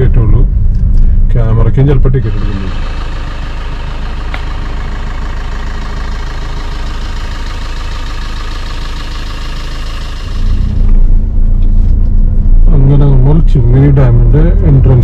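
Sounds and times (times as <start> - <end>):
car engine idling: 0.0 - 15.0
car engine low rumble: 0.0 - 15.0.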